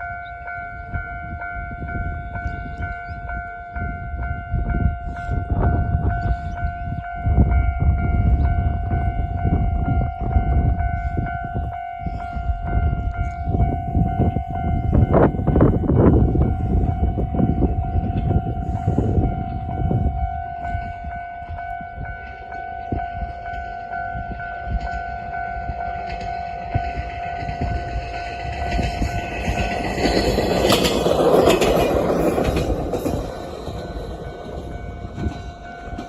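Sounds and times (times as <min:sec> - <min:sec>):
level crossing warning alarm: 0:00.0 - 0:36.0
train running over crossing: 0:00.0 - 0:36.0.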